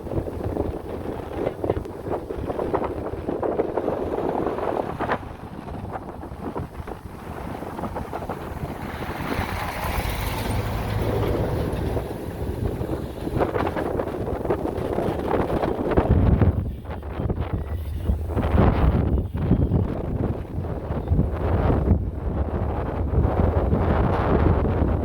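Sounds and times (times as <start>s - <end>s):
heavy machinery rumbling: 0.0s - 24.1s
wind buffeting microphone: 0.0s - 25.0s.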